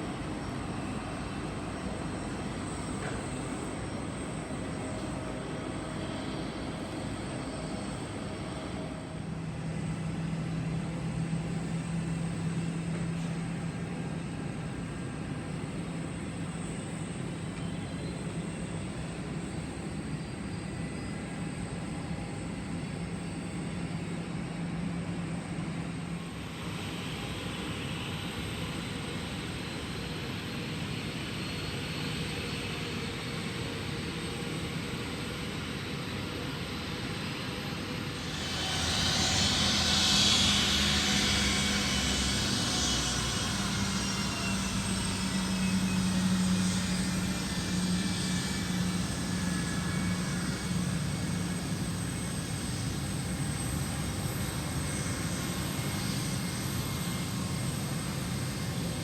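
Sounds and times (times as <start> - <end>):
airplane engine drone: 0.0 - 59.0
hissy engine sound: 0.0 - 59.0.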